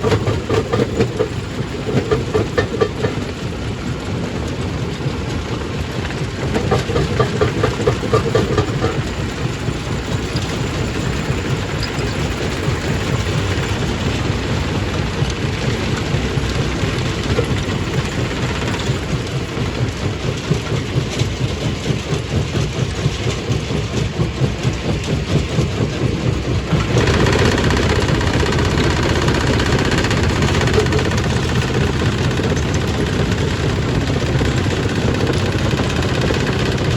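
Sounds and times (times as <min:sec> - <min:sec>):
stone crushing machine running: 0:00.0 - 0:36.9.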